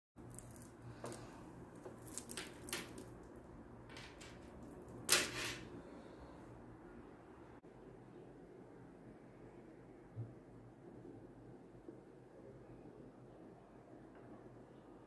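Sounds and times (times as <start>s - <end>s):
faint steady hum: 0.2s - 15.0s.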